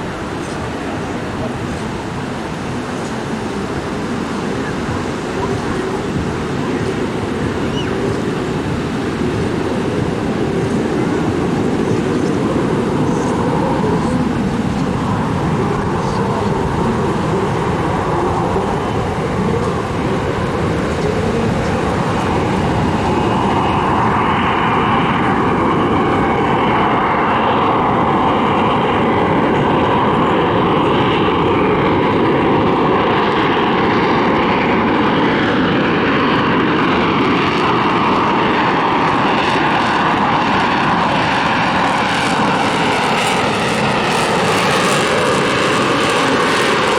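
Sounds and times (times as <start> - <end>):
aircraft engine overhead: 0.0 - 46.9.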